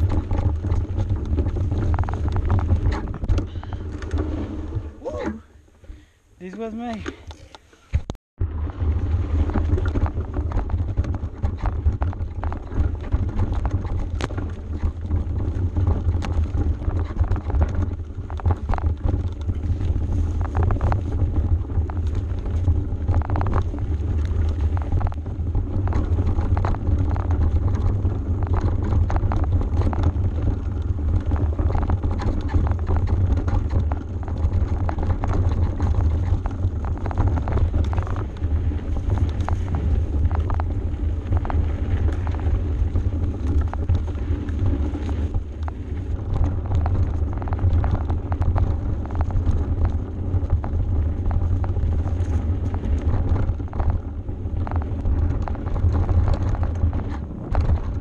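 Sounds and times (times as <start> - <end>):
bike rattling over bumps: 0.0 - 58.0
wind buffeting microphone: 0.0 - 58.0.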